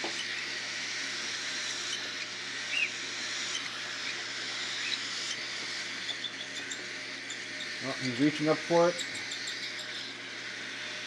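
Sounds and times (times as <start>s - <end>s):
baby birds begging raspy hiss: 0.0s - 11.0s.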